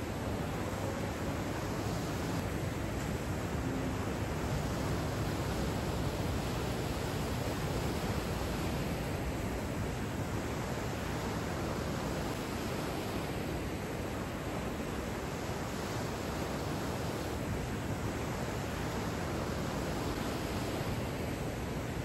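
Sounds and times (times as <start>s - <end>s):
whitewater churning and rushing: 0.0s - 22.0s.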